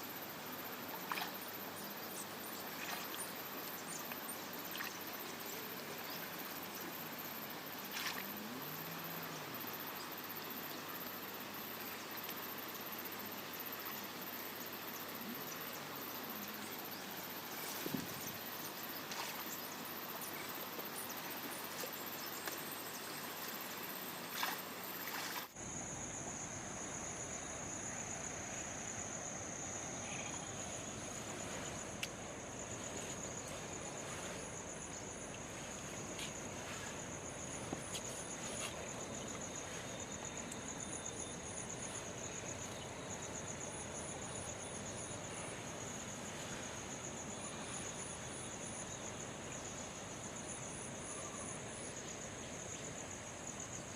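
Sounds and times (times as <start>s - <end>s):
crickets and insects chirping: 0.0s - 53.9s
outdoor noise: 0.0s - 53.9s.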